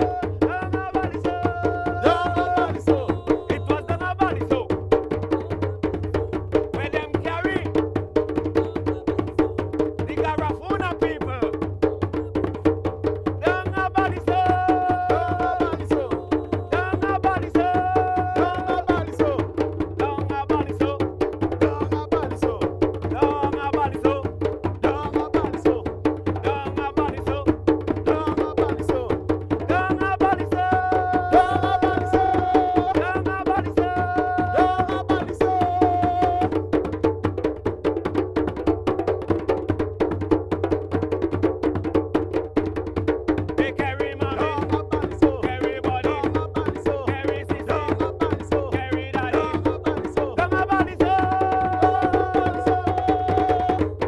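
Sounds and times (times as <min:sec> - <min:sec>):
hand drums playing fast rhythm: 0:00.0 - 0:54.0.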